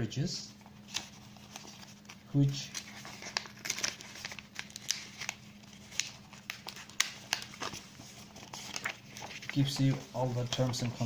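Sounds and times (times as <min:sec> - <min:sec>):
paper pages rustling: 0:00.5 - 0:11.0.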